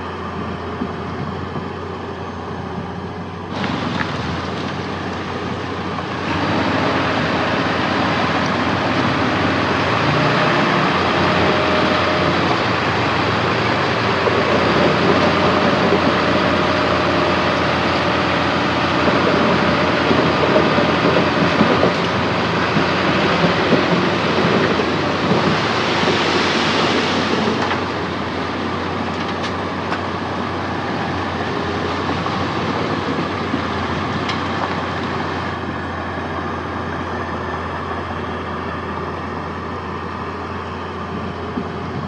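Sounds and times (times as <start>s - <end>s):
bulldozer diesel engine running: 0.0s - 42.0s
steel tracks clanking: 0.0s - 42.0s.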